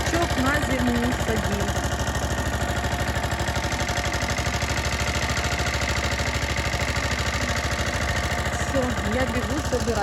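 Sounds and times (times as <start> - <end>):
tiller engine chugging: 0.0 - 10.0.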